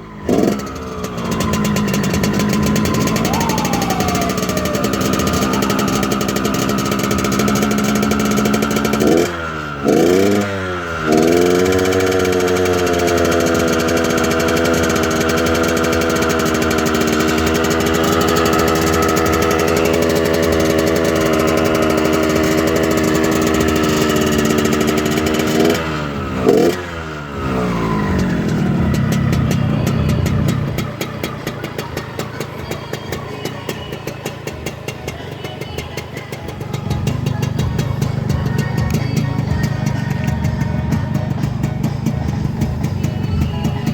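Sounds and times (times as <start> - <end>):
motorcycle engine revving and idling: 0.0 - 43.9.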